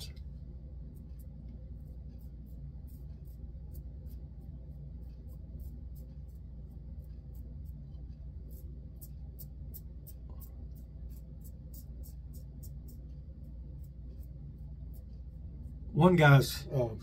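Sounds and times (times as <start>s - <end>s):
steady low hum: 0.0s - 17.0s
razor scraping stubble: 0.9s - 16.4s.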